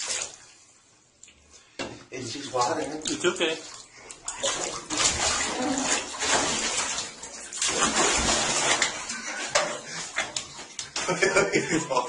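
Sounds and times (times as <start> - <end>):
water splashing in a bathtub: 0.0 - 12.0.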